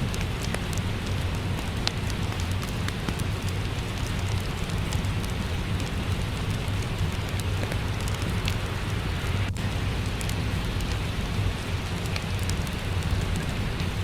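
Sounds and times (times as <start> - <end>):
fireplace crackling: 0.0 - 14.0
rain falling: 0.0 - 14.0.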